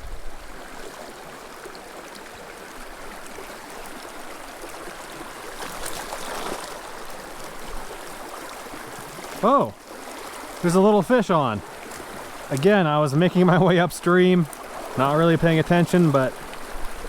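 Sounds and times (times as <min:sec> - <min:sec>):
creek babbling over rocks: 0:00.0 - 0:17.0.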